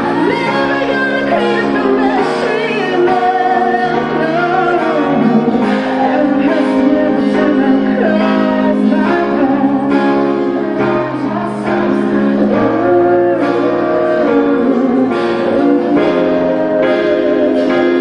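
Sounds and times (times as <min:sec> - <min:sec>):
keyboard playing chords: 0:00.0 - 0:18.0
person singing: 0:00.0 - 0:18.0.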